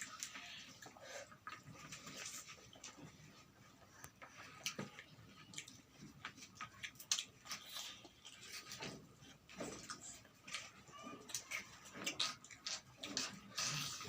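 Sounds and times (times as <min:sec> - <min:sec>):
chewing and eating: 0:00.0 - 0:14.0.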